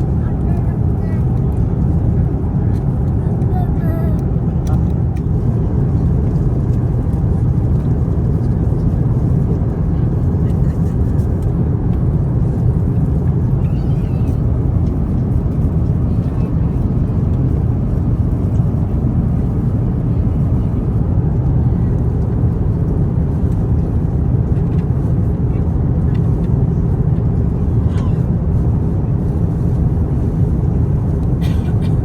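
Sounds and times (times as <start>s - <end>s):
airliner cabin roar: 0.0s - 32.0s.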